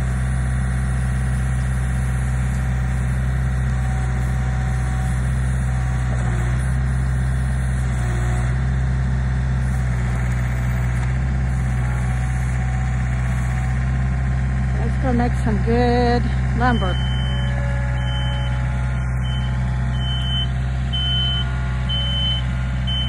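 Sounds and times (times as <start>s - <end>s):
backhoe dragging a heavy log: 0.0s - 23.0s
diesel engine running: 0.0s - 23.0s.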